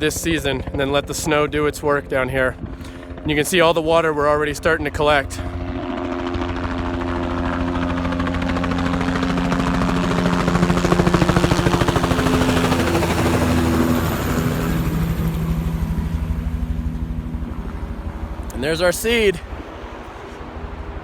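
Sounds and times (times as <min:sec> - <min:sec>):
engine running with fast pulse: 0:00.0 - 0:21.0.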